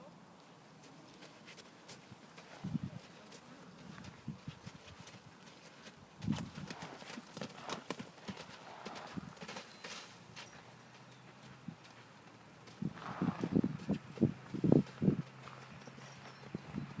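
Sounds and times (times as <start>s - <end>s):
horse hooves clopping: 0.4s - 17.0s.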